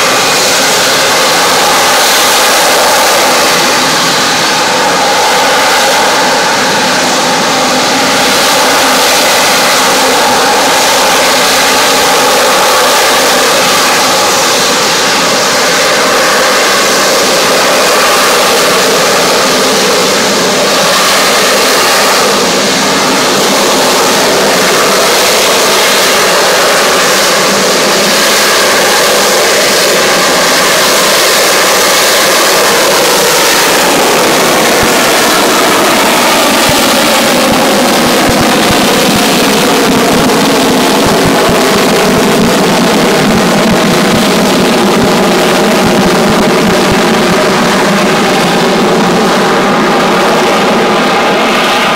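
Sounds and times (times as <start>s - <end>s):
jet engine roaring at high power: 0.0s - 51.9s.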